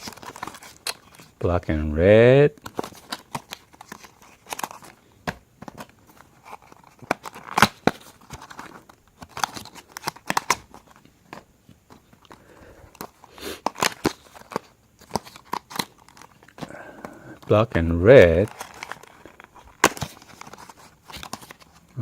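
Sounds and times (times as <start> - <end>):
packaging crinkling and tearing: 0.0 - 1.4, 2.5 - 22.0.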